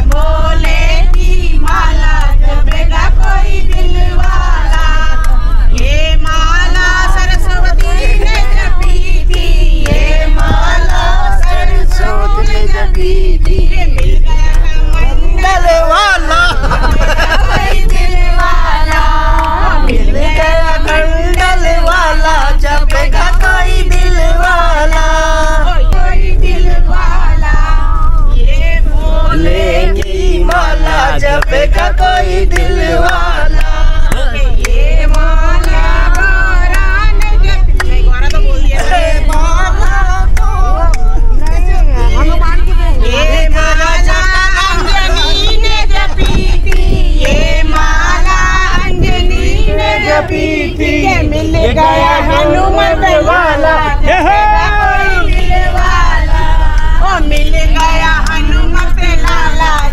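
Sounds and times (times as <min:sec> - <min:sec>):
group singing devotional song: 0:00.0 - 0:59.9
low rumble of moving vehicle: 0:00.0 - 0:59.9.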